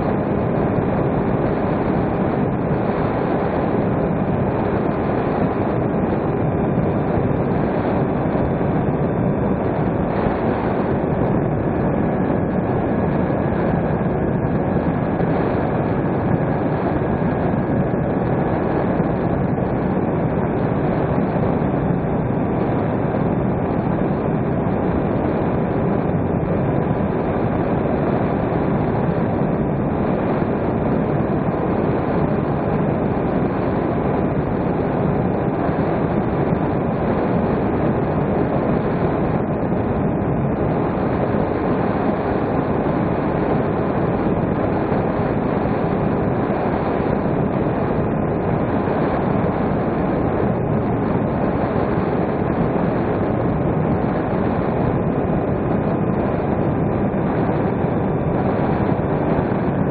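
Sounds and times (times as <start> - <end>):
faint motor whine: 0.0 - 59.9
wind and propeller noise: 0.0 - 59.9.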